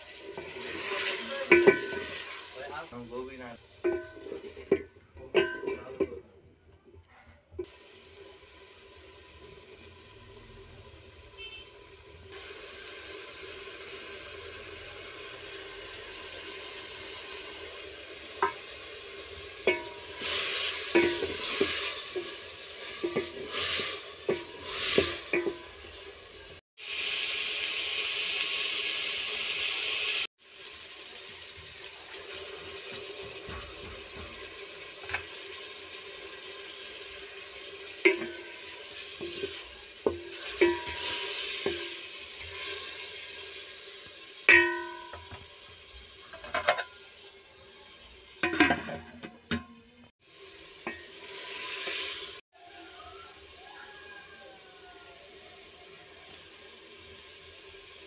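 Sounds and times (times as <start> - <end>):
cauliflower sizzling in pot: 0.0 - 6.3, 7.6 - 58.0.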